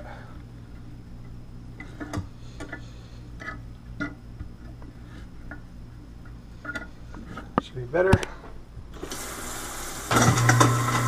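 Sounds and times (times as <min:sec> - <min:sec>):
faint low hum: 0:00.0 - 0:09.0.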